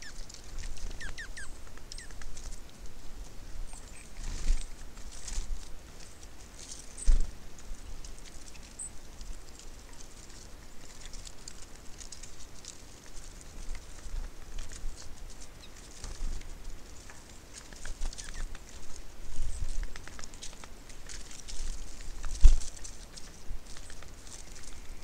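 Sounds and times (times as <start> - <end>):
birds pecking and scrabbling: 0.0 - 25.0.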